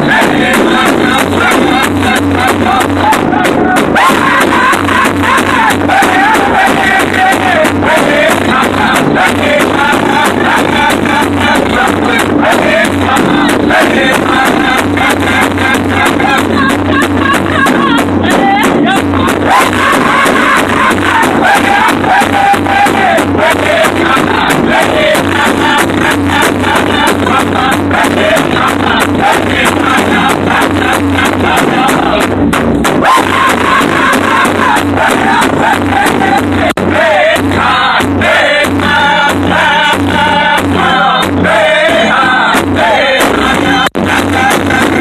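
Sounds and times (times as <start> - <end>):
large drum fast steady beat: 0.0 - 45.0
men singing in high voices: 0.0 - 45.0.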